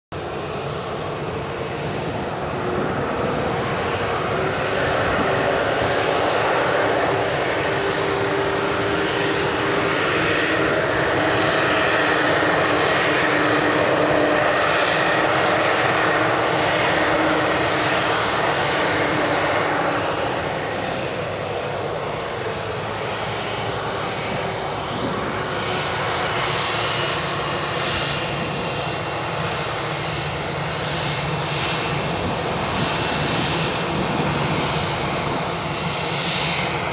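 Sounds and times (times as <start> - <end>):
jet engines rumbling: 0.1 - 36.9.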